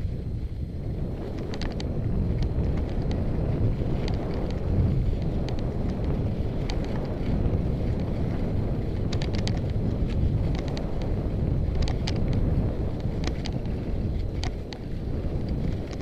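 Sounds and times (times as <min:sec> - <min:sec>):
skis ticking on snow: 0:00.0 - 0:16.0
wind buffeting microphone: 0:00.0 - 0:16.0.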